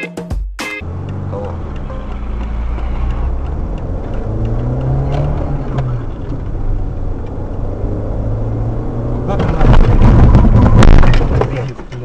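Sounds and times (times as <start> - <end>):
car engine and road noise: 0.8 - 12.0.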